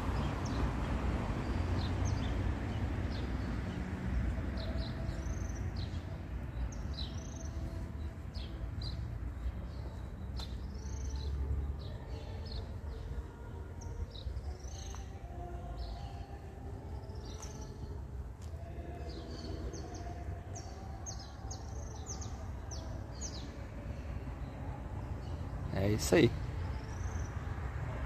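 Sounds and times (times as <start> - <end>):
small birds chirping: 1.4 - 18.0, 18.6 - 27.4.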